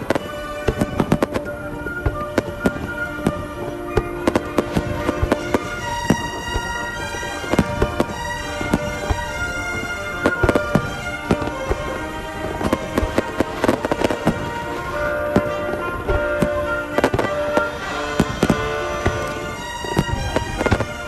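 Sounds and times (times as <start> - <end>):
fireworks cracking and banging: 0.0 - 21.0
music with long held notes: 0.0 - 21.0.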